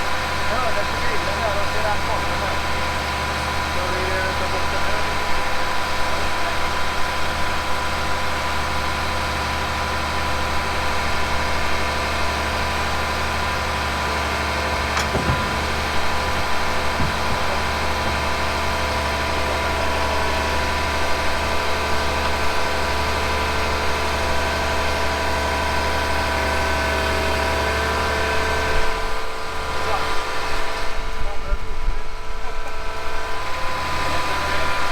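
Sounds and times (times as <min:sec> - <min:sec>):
excavator diesel engine idling: 0:00.0 - 0:34.9.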